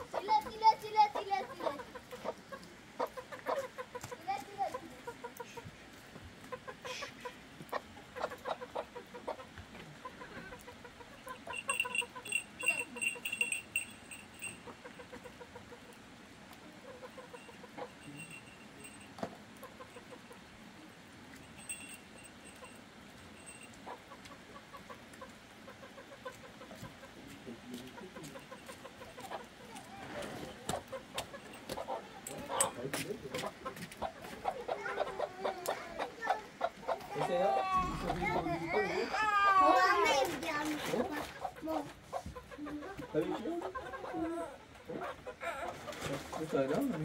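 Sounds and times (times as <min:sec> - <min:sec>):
hens clucking: 0:00.0 - 0:20.9, 0:23.4 - 0:47.0.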